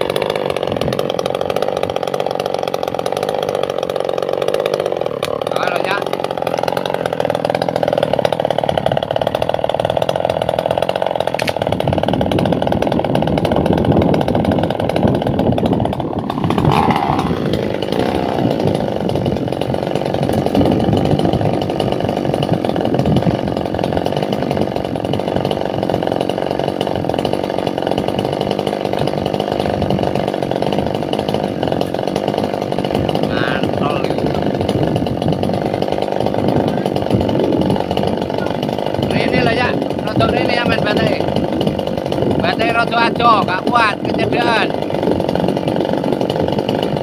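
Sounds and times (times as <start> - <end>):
chainsaw running: 0.0 - 47.0.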